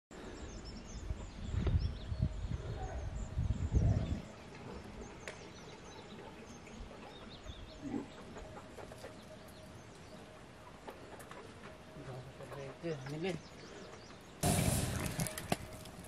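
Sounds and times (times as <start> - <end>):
small birds chirping: 0.1 - 15.7.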